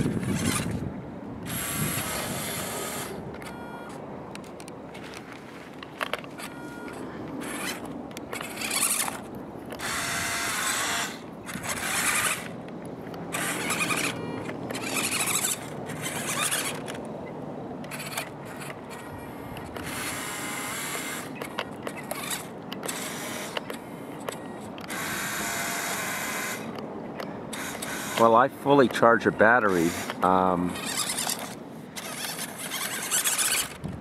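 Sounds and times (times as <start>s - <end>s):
small electric motor whining: 0.0s - 5.2s, 6.0s - 34.0s.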